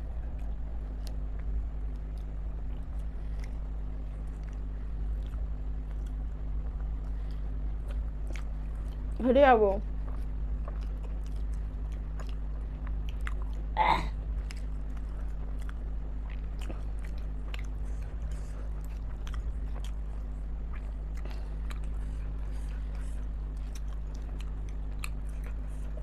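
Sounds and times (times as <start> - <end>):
person chewing food: 0.0 - 9.2, 9.9 - 26.0.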